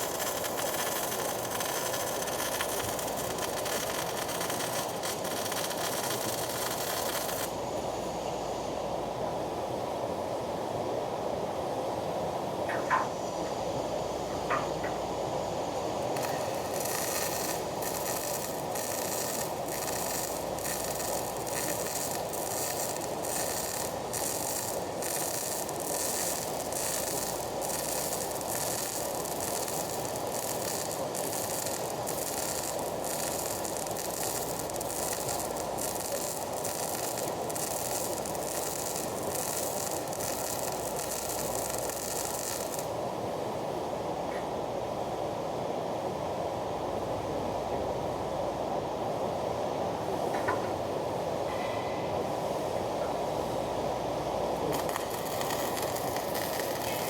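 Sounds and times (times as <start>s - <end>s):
arc welding crackling sizzle: 0.0s - 9.0s, 12.7s - 44.0s, 50.2s - 57.0s.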